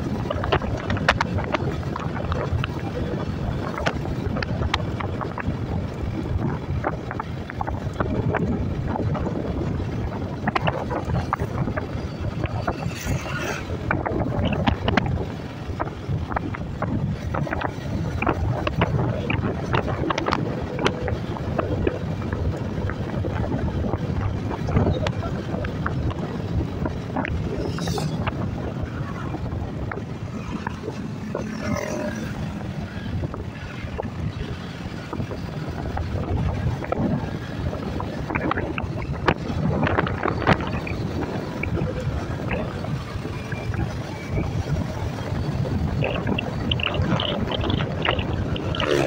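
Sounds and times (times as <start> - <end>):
tyres on road: 0.0 - 49.0
wind buffeting microphone: 0.0 - 49.0.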